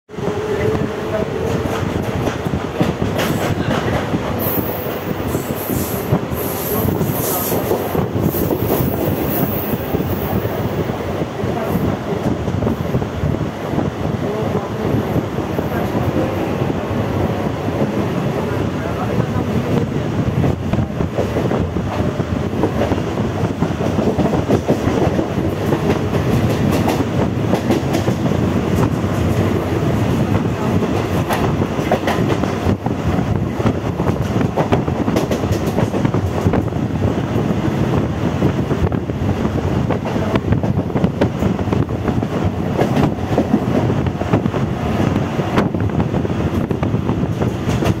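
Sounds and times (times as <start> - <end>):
train running rumble: 0.1 - 48.0.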